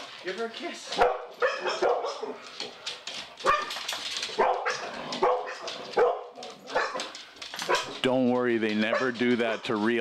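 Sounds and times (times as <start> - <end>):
dogs barking: 0.9 - 8.1, 8.7 - 10.0.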